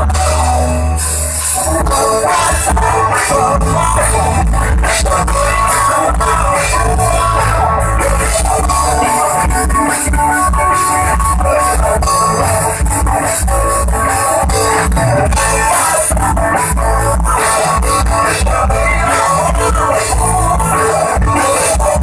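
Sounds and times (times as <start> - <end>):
rock band music: 0.0 - 22.0.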